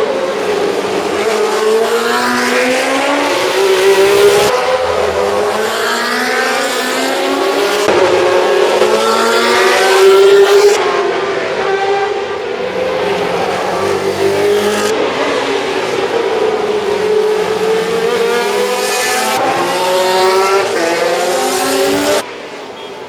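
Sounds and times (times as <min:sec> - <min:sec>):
racing cars passing at high revs: 0:00.0 - 0:22.6.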